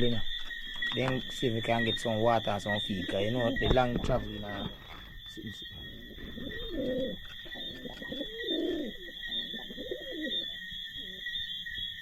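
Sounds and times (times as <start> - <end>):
pigeons cooing: 0.0 - 12.0
steady high-pitched whine: 0.0 - 12.0.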